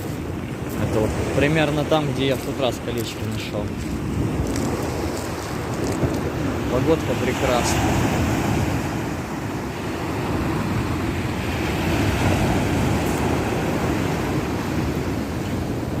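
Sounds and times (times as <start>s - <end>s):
sea surf washing on shore: 0.0s - 16.0s
wind buffeting microphone: 0.0s - 16.0s.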